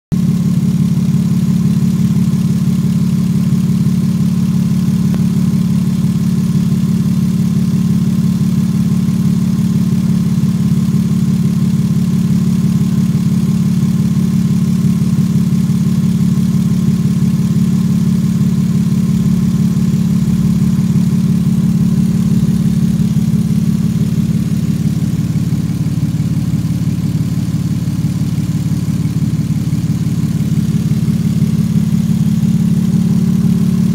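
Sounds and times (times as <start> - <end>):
petrol engine idling: 0.2 - 33.9.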